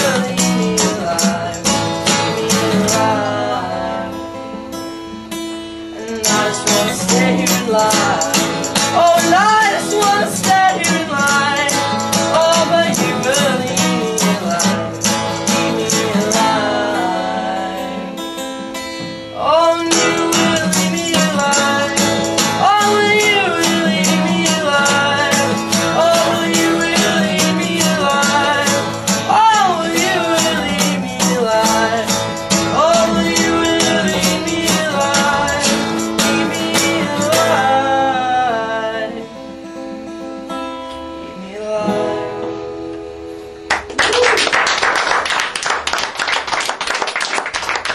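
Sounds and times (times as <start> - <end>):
person singing: 0.0 - 4.6, 5.8 - 18.3, 19.3 - 39.6, 41.1 - 42.6
guitar strumming: 0.0 - 47.9.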